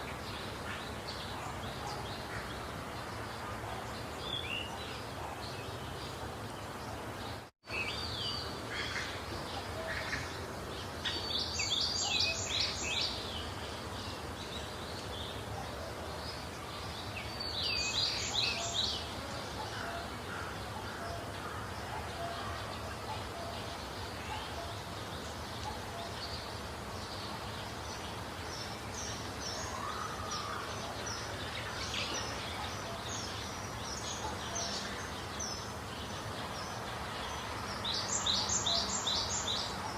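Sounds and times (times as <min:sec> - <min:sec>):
background hiss: 0:00.0 - 0:39.9
wild birds singing: 0:00.0 - 0:39.9.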